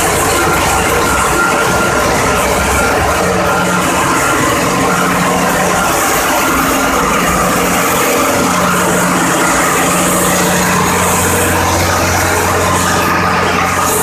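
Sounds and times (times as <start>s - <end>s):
engine room machinery din: 0.0s - 14.0s.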